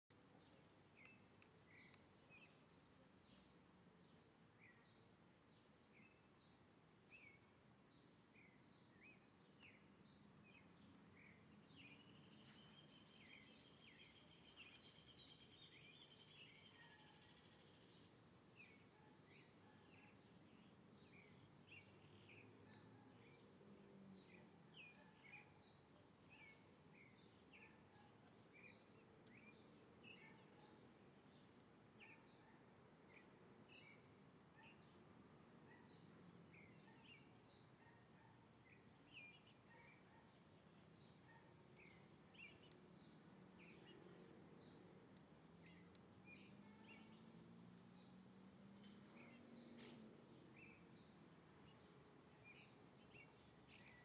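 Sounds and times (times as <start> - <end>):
small birds chirping: 0.1 - 54.0.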